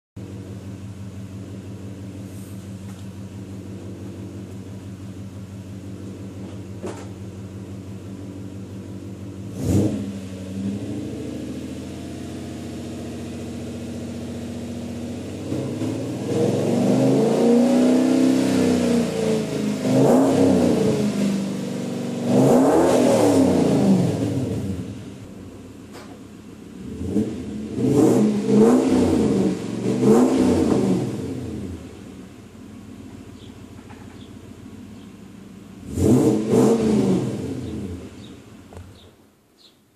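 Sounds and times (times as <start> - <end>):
car engine idling and revving: 0.2 - 39.7.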